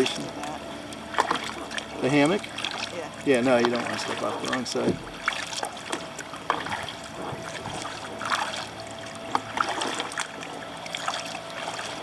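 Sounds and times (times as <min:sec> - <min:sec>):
paddle blades splashing: 0:00.0 - 0:12.0
water dripping off paddle: 0:00.1 - 0:12.0.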